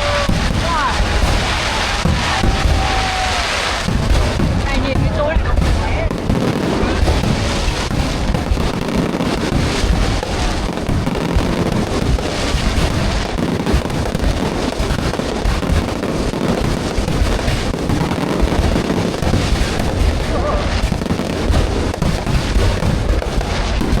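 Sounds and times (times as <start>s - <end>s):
deep fireworks booms: 0.0s - 24.0s
fireworks bangs and crackling: 0.0s - 24.0s.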